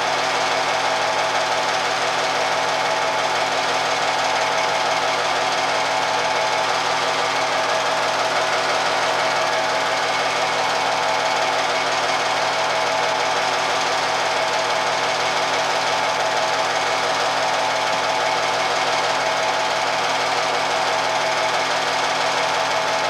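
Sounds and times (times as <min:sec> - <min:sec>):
film projector clattering: 0:00.0 - 0:23.0.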